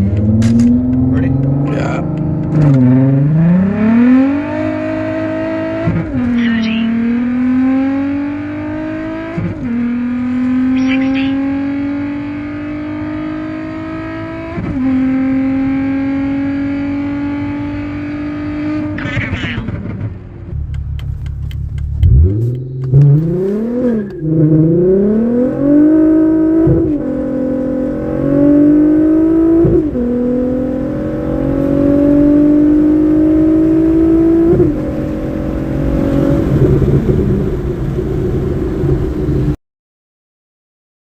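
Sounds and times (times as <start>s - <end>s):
car engine revving and accelerating: 0.0s - 39.6s.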